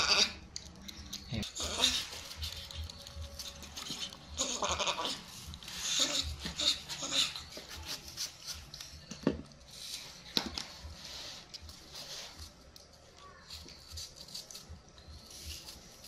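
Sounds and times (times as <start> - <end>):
knife paring apple skin: 0.1 - 10.4, 11.5 - 16.0.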